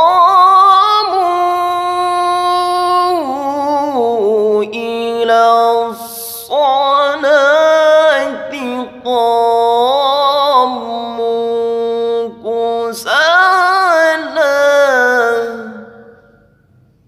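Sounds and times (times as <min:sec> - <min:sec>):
solo voice chanting: 0:00.0 - 0:16.6.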